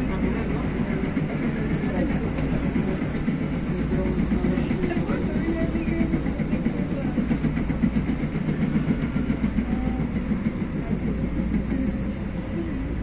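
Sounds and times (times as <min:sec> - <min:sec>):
light rail train rumbling: 0:00.0 - 0:13.0.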